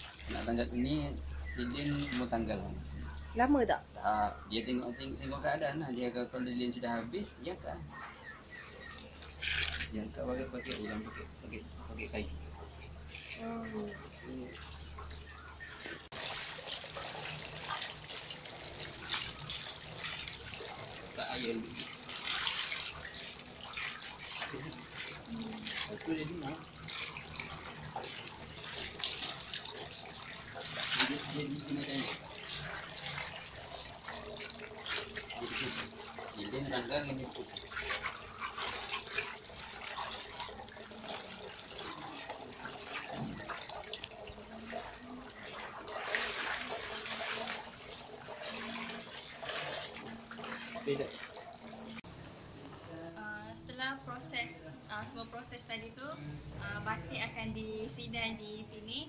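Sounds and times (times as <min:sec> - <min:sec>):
water sloshing in a basin: 0:00.0 - 0:52.2.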